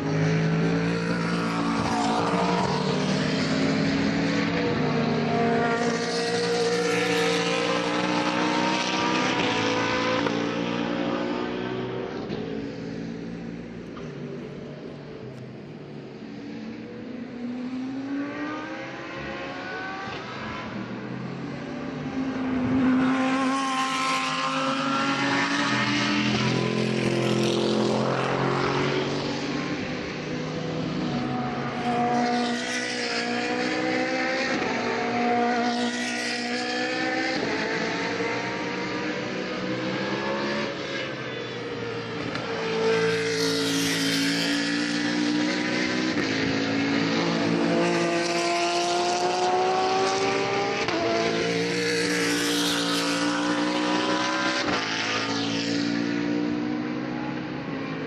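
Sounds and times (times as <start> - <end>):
race cars passing at full throttle: 0.0 - 58.0.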